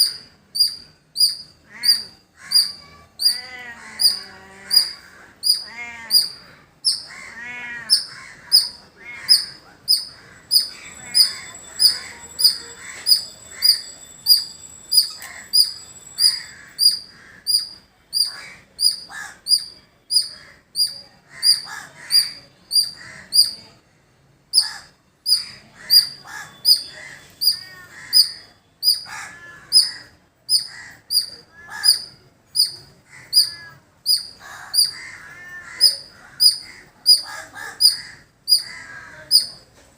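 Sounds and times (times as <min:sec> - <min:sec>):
birds calling: 0:00.0 - 0:23.7, 0:24.6 - 0:39.7
squirrel chipping calls: 0:00.0 - 0:23.8, 0:24.5 - 0:39.7
crows cawing: 0:01.6 - 0:14.0, 0:15.0 - 0:19.6, 0:20.2 - 0:23.6, 0:24.6 - 0:32.3, 0:33.0 - 0:39.6.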